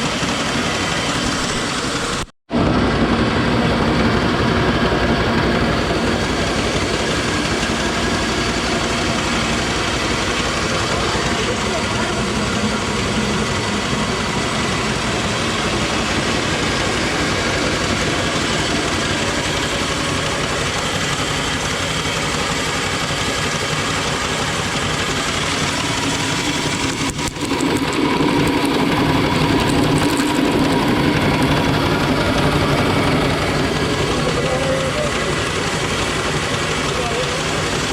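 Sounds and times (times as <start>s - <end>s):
grain mill mechanical drone: 0.0s - 37.9s.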